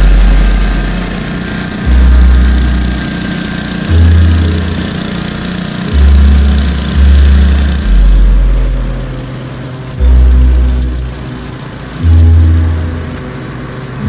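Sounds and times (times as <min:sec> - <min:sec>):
mower engine running: 0:00.0 - 0:14.0
music with deep bass notes: 0:00.0 - 0:14.0.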